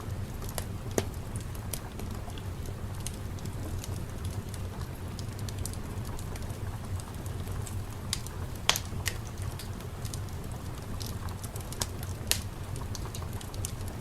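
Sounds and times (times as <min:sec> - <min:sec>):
fire low rumble: 0:00.0 - 0:14.0
fireplace popping: 0:00.0 - 0:14.0.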